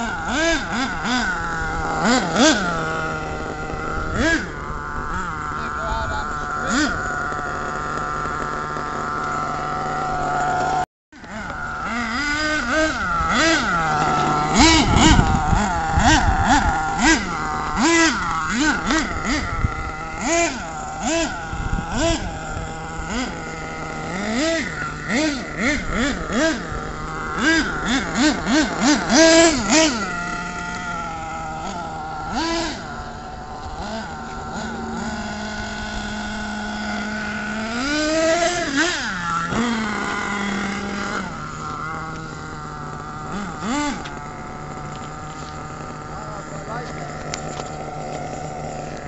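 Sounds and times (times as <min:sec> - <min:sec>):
rc car motor revving: 0:00.0 - 0:49.0.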